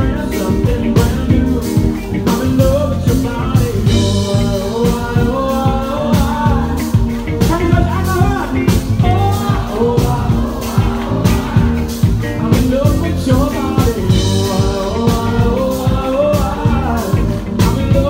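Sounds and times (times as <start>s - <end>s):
electric guitar: 0.0s - 18.0s
keyboard: 0.0s - 18.0s
steady drum beat: 0.0s - 18.0s.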